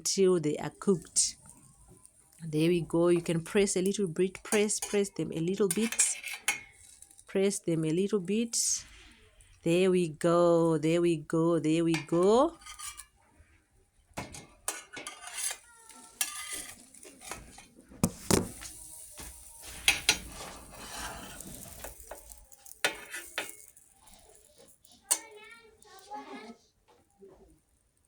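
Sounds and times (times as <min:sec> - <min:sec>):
batter sizzling faintly: 0:00.4 - 0:10.0, 0:11.9 - 0:28.0
spatula scraping a frying pan: 0:00.8 - 0:09.5, 0:11.9 - 0:13.4, 0:14.2 - 0:26.6.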